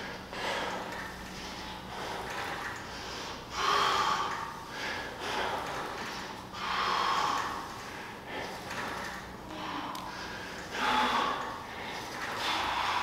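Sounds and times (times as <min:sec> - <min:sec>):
man breathing hard: 0:00.0 - 0:08.7, 0:09.4 - 0:13.0.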